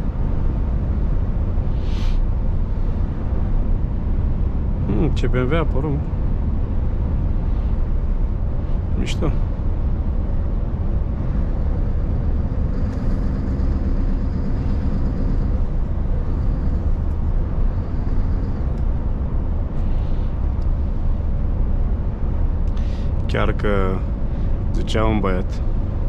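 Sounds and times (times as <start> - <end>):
road and tyre rumble: 0.0 - 26.0
diesel truck engine running: 2.4 - 26.0.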